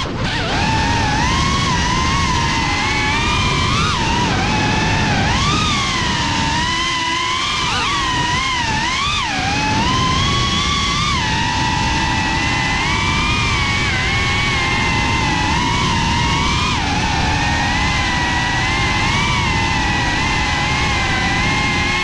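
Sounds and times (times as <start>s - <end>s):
drone motors whining: 0.0s - 22.0s
wind noise: 0.0s - 22.0s.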